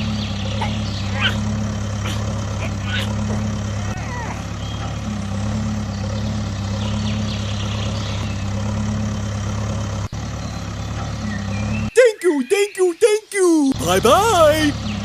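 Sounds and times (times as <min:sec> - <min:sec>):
small engine droning: 0:00.0 - 0:15.0.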